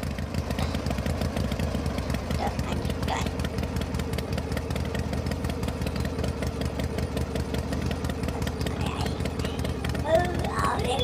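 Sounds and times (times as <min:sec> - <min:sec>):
toy tractor motor running: 0:00.0 - 0:11.0.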